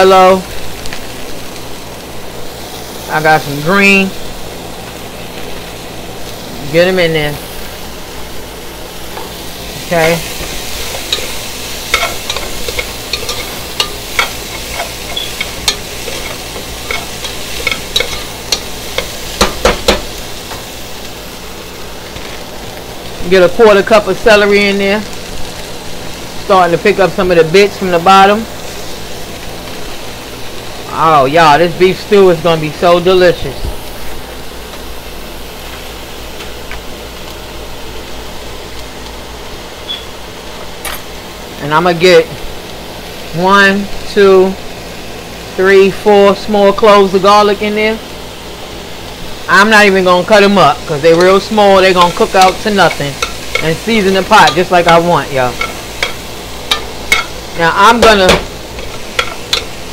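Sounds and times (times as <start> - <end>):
range hood fan whooshing hum: 0.0 - 59.9
vegetables sizzling in oil: 0.0 - 59.9.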